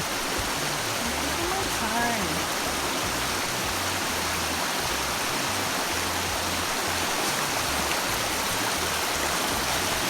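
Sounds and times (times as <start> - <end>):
river water flowing: 0.0 - 10.0.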